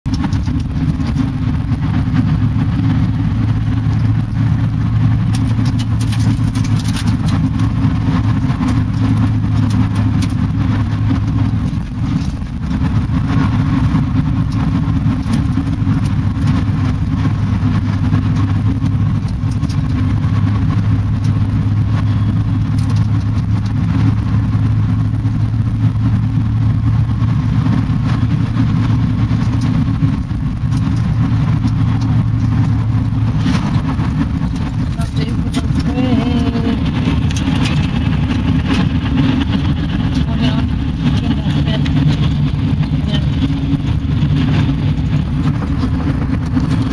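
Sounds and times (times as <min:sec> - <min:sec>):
constant hum: 0:00.0 - 0:46.9
road and tyre rumble: 0:00.0 - 0:46.9.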